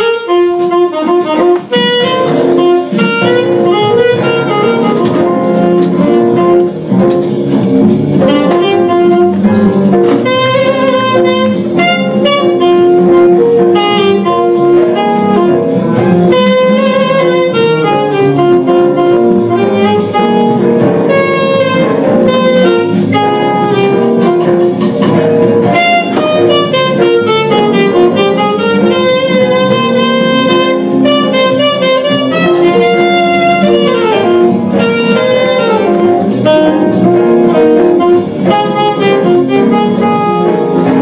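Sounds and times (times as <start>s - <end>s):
saxophone melody: 0.0s - 41.0s.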